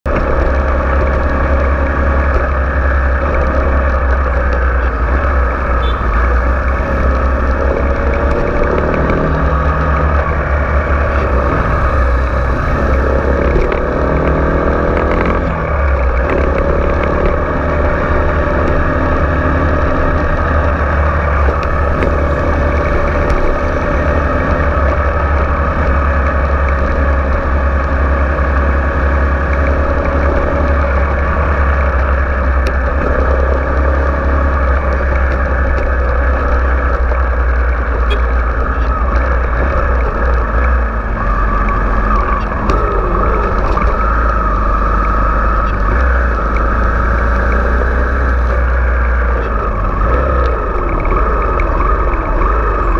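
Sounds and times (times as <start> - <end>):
low rumble: 0.0 - 52.9
motorcycle engine revving: 0.0 - 52.9.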